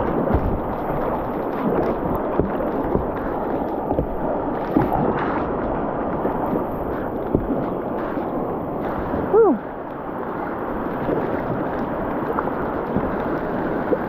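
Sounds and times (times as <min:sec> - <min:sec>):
paddle splashes: 0:00.0 - 0:14.0
whitewater rushing: 0:00.0 - 0:14.0.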